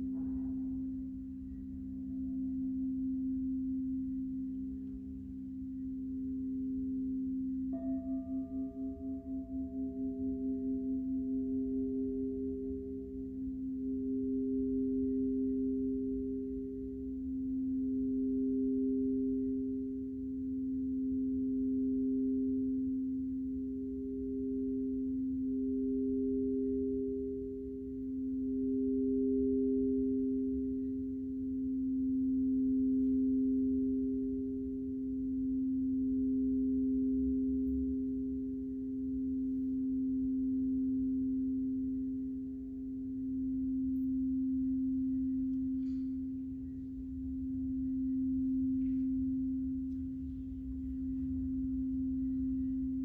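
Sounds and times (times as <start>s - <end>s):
singing bowls ringing: 0.0s - 53.0s.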